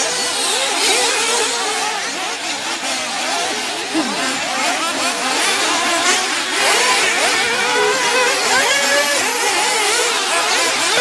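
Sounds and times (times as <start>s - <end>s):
small engines revving whines: 0.0s - 11.0s.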